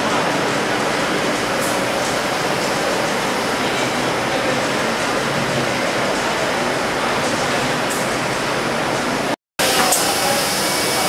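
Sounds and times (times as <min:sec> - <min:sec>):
machine running: 0:00.0 - 0:11.0.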